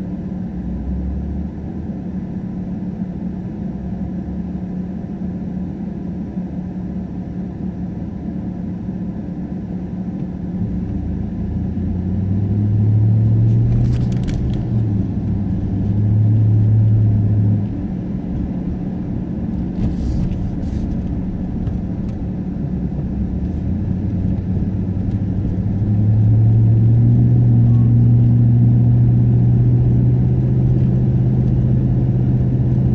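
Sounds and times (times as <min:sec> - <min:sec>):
car engine from inside cabin: 0:00.0 - 0:32.9.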